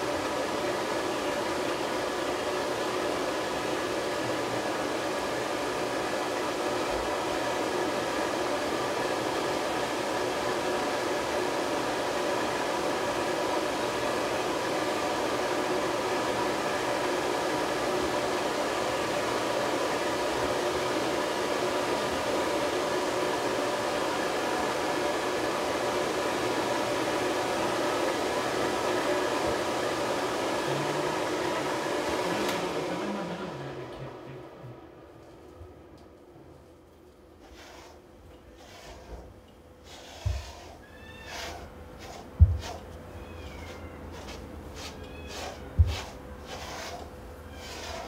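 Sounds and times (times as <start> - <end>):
blow dryer running: 0.0 - 48.0.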